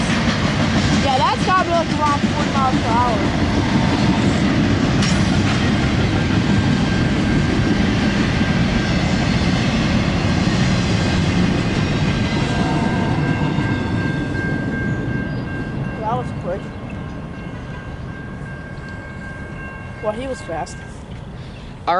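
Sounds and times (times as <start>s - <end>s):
freight train wheels rumbling: 0.0s - 21.9s.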